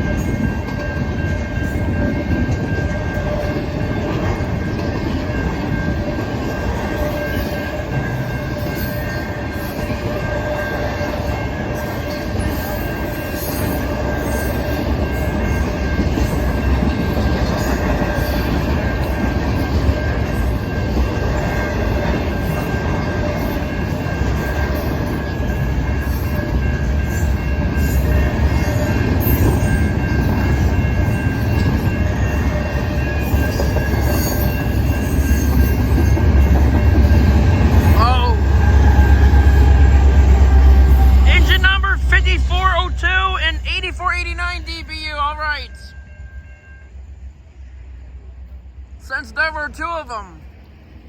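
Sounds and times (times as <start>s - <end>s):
freight train rumbling: 0.0s - 51.0s.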